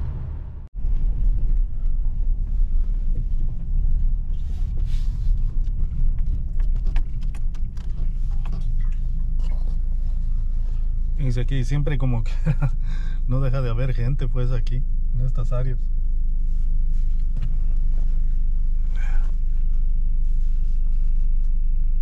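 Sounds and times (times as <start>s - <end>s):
car cabin road rumble: 0.0s - 22.0s.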